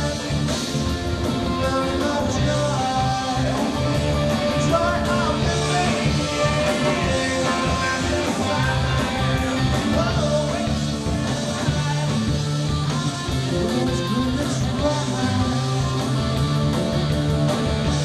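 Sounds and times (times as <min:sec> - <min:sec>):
guitar: 0:00.0 - 0:18.0
live rock band playing: 0:00.0 - 0:18.0
long held bass notes: 0:00.0 - 0:18.0.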